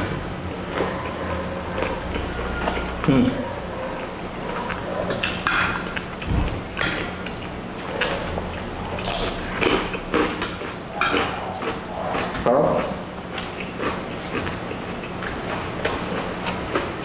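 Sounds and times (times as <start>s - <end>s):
mouth-full chewing with wet smacks: 0.6s - 17.0s.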